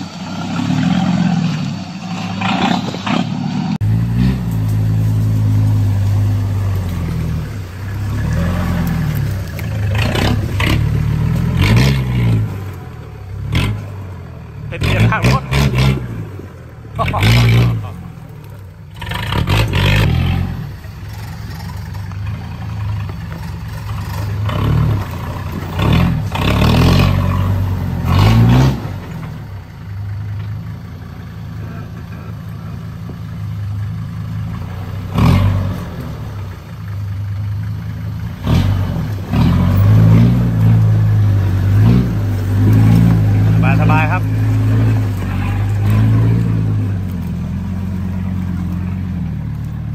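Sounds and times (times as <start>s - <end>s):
off-road engine revving: 0.0s - 49.9s.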